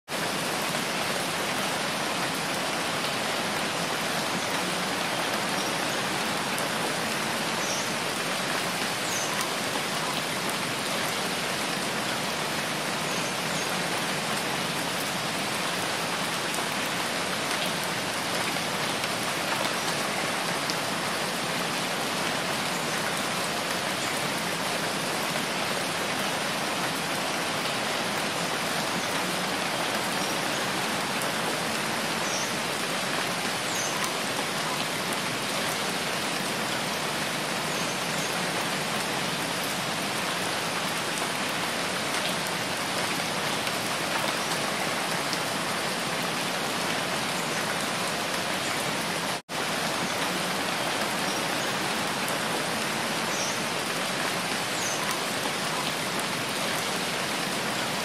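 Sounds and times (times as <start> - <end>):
steady rain hiss: 0.1 - 58.0.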